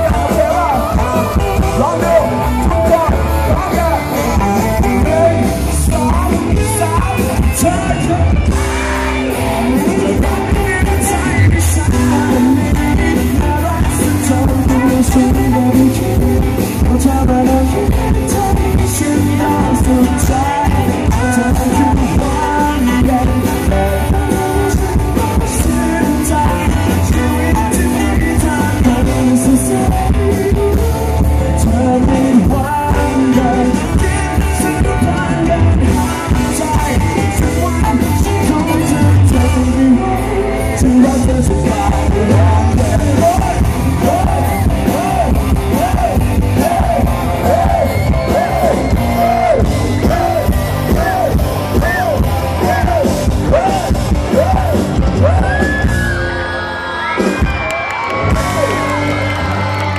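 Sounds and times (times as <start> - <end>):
man singing lead vocals: 0.0 - 56.4, 57.1 - 59.9
live rock band: 0.0 - 59.9.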